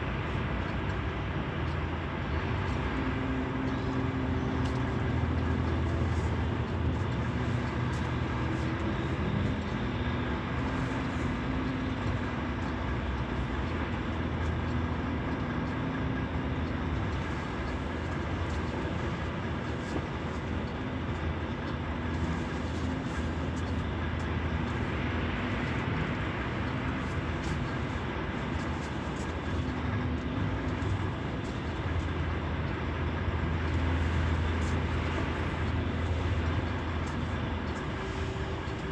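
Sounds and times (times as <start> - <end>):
droning hum: 0.0 - 38.9
low engine rumble: 0.0 - 38.9.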